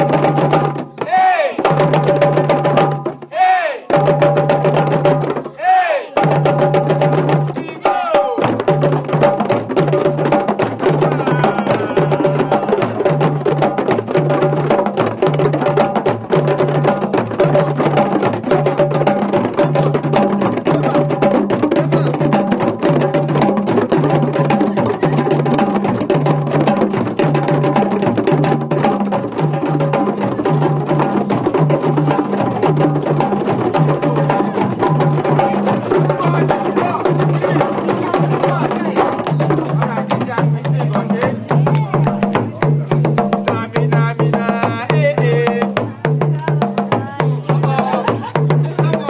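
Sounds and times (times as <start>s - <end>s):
background music with drum beat: 0.0s - 49.0s.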